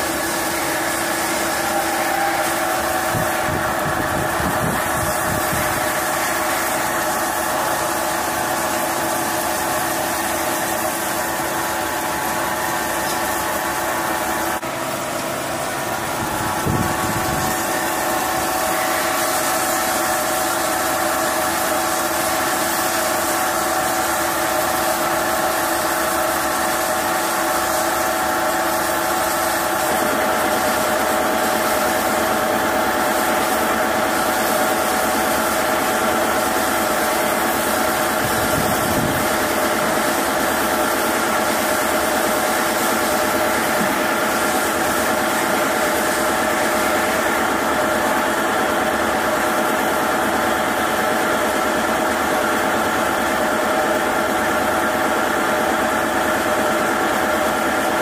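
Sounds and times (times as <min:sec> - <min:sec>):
coolant spray hiss: 0:00.0 - 0:58.0
lathe machine whine: 0:00.0 - 0:58.0.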